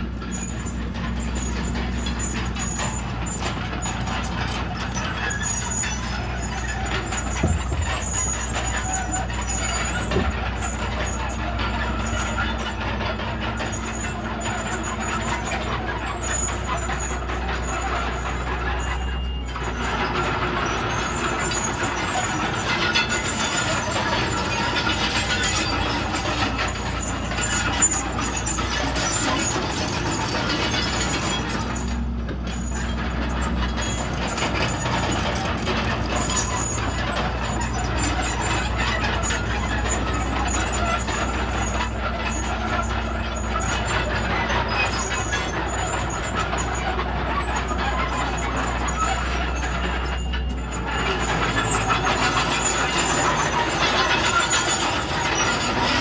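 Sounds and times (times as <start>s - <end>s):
bulldozer diesel engine running: 0.0s - 56.0s
clatter and squeal of tracks: 0.0s - 56.0s.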